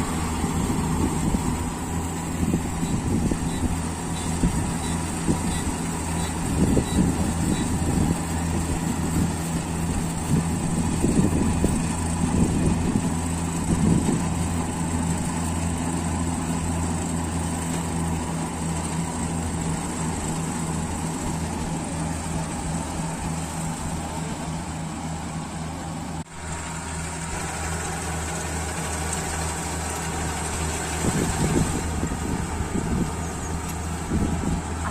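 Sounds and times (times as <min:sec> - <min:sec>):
combine harvester engine droning: 0:00.0 - 0:34.9.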